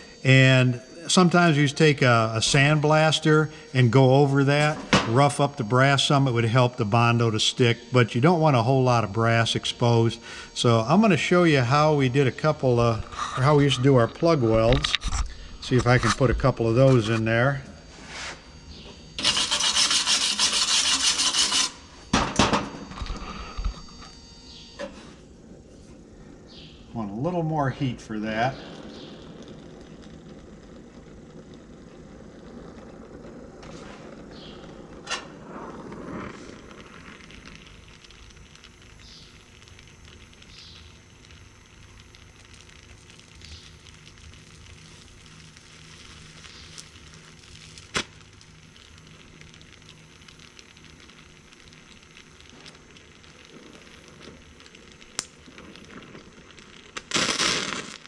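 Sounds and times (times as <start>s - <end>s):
torch flame hissing: 0.0s - 58.0s.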